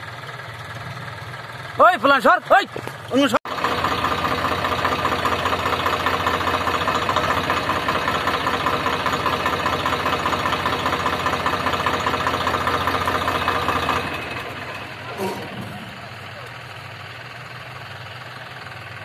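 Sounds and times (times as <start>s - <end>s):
tractor diesel engines running: 0.0s - 19.0s.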